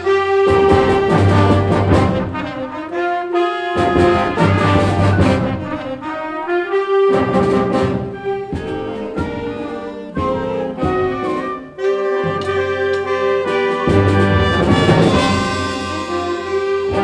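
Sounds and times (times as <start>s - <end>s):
concert band playing chords: 0.0s - 17.0s.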